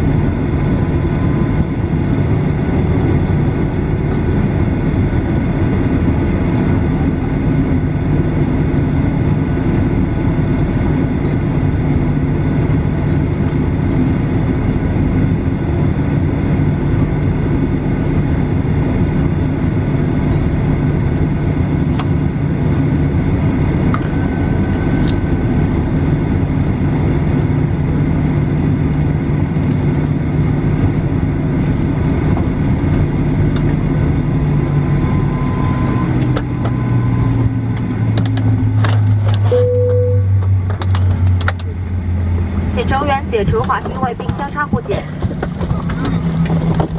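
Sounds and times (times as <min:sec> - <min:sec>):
jet engines idling in cabin: 0:00.0 - 0:46.9.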